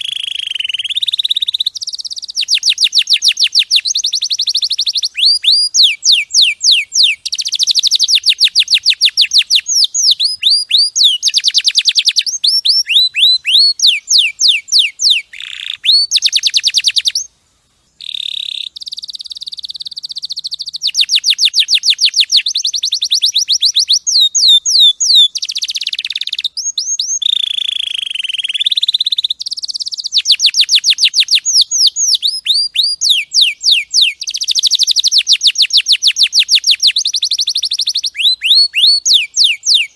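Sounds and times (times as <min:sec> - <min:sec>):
canary singing trills: 0:00.0 - 0:17.3, 0:18.0 - 0:39.9.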